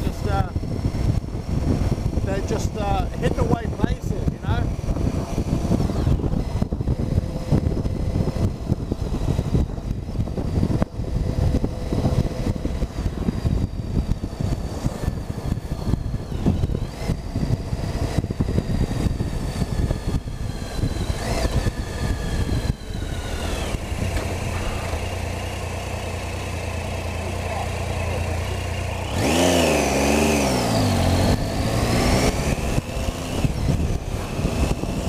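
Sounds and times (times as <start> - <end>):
wind noise on microphone: 0.0 - 27.2, 28.5 - 35.0
motorcycle engine running: 0.0 - 35.0.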